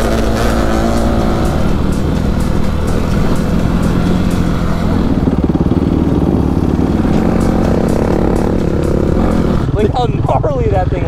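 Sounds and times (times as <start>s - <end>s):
dirt bike engine: 0.0s - 11.0s.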